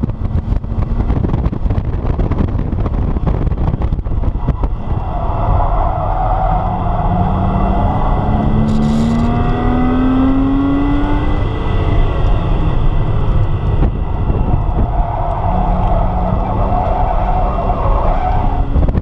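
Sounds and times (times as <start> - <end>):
car engine accelerating: 0.0 - 19.0
tyre and wind noise: 0.0 - 19.0.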